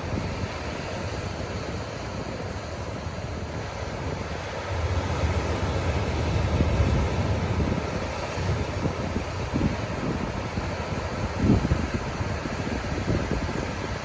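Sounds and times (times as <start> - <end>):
ocean surf washing on beach: 0.0 - 14.0
wind rumbling on microphone: 0.0 - 14.0.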